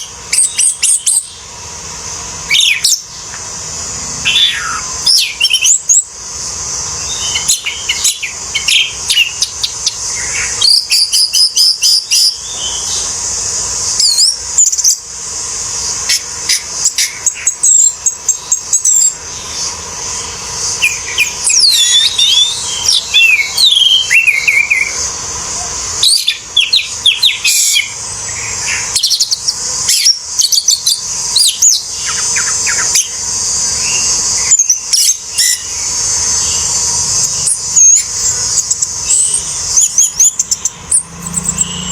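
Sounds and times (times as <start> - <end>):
steady high hiss: 0.0 - 41.9
thrush singing: 0.0 - 41.9.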